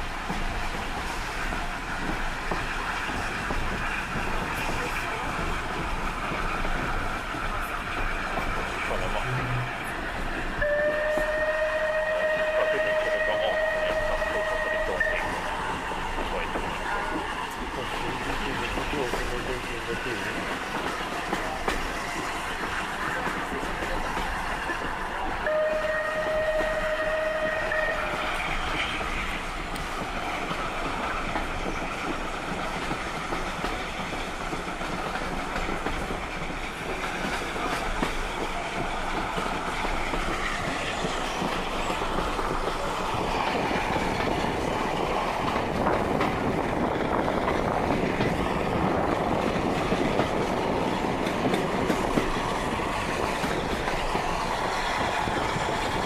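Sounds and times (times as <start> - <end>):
train running: 0.0 - 56.0.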